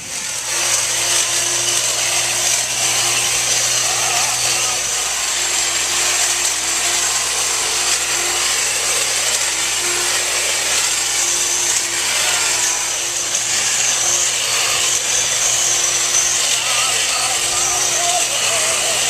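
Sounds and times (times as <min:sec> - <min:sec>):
power saw running: 0:00.0 - 0:19.0.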